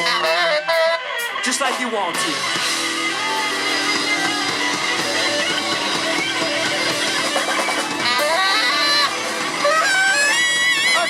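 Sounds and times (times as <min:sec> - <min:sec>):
electric guitar: 0:00.0 - 0:11.0
live rock band playing: 0:00.0 - 0:11.0.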